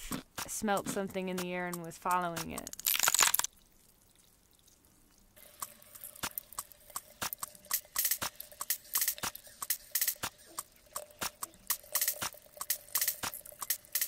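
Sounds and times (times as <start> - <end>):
ice crackling and popping: 0.0 - 14.0.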